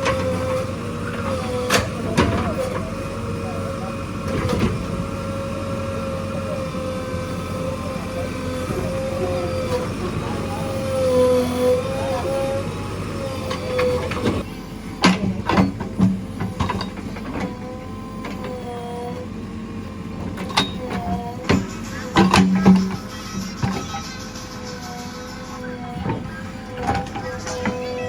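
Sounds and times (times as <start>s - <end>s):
backhoe diesel engine under load: 0.0s - 28.0s
hydraulic whine: 0.0s - 28.0s.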